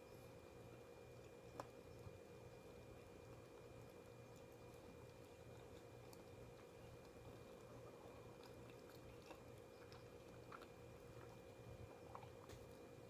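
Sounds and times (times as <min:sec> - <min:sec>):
low electrical hum: 0:00.0 - 0:13.0
person chewing: 0:01.2 - 0:13.0.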